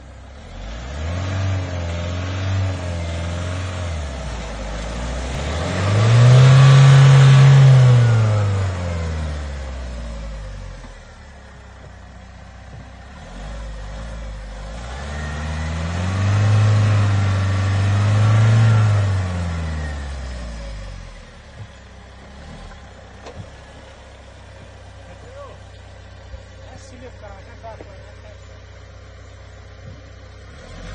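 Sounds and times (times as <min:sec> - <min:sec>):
vehicle engine revving: 0:00.0 - 0:30.9.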